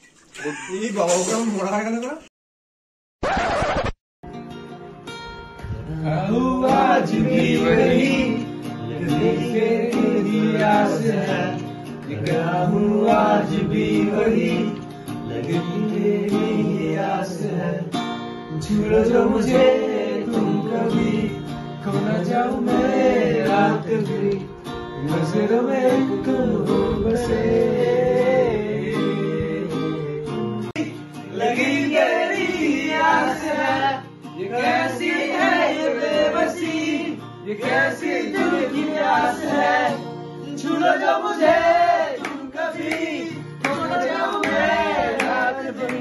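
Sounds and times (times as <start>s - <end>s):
acoustic guitar strumming chords: 4.2s - 46.0s
voices singing: 5.9s - 46.0s.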